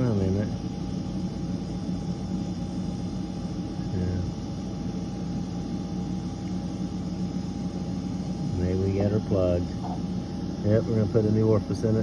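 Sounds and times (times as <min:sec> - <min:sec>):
machine humming with faint whine: 0:00.0 - 0:12.0.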